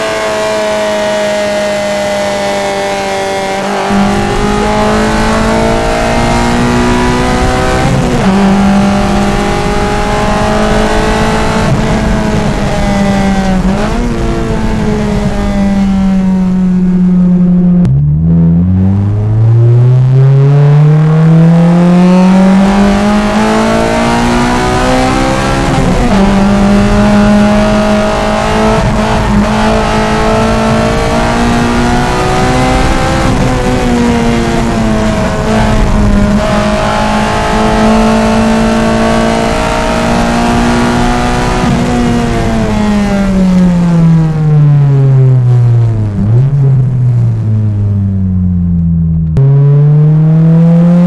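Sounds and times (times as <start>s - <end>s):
car engine accelerating hard: 0.0s - 51.0s.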